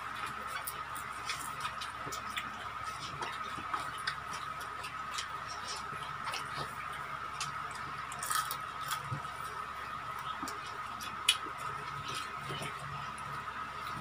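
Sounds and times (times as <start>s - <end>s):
chewing: 0.0s - 14.0s
crispy food crackling: 0.0s - 14.0s
steady high-pitched hum: 0.0s - 14.0s.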